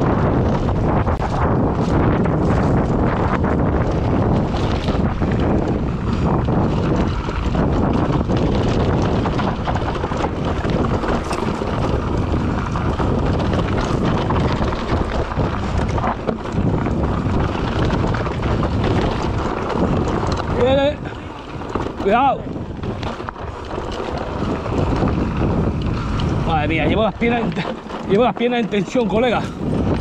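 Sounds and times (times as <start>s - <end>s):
bike rattling on rocky trail: 0.0s - 30.0s
wind on microphone: 0.0s - 30.0s.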